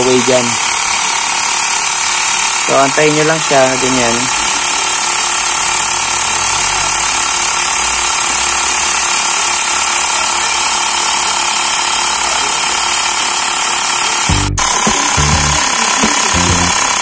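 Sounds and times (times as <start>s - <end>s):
electric air compressor running: 0.0s - 17.0s.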